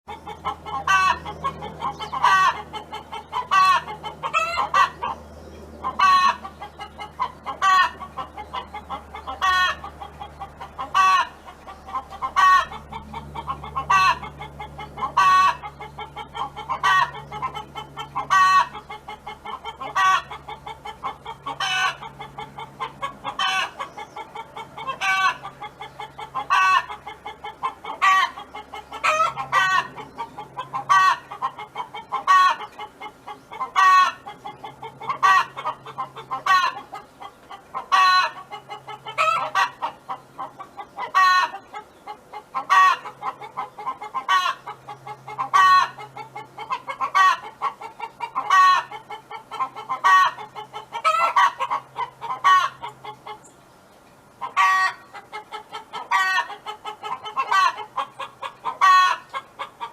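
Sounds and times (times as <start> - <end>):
chicken hen clucking: 0.1 - 53.6, 54.3 - 59.9.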